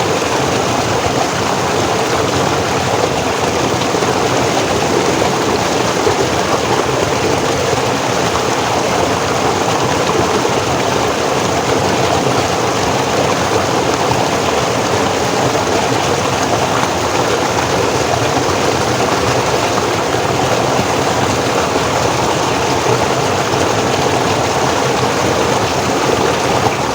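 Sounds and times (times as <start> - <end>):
stream flowing over rocks: 0.0 - 26.9.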